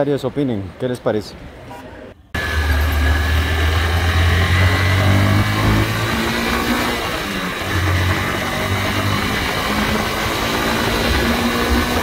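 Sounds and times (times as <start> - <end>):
motorcycle engine running: 2.4 - 12.0.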